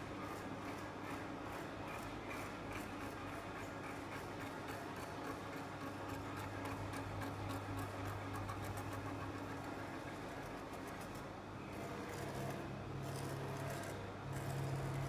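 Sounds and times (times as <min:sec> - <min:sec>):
projector fan and motor hum: 0:00.0 - 0:15.0.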